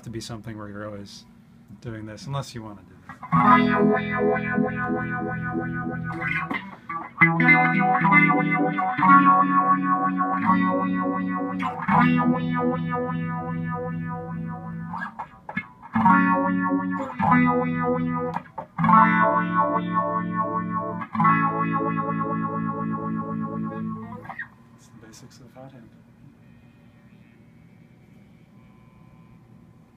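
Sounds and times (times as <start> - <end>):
filtered electric guitar chords: 3.1 - 24.6, 26.4 - 29.9.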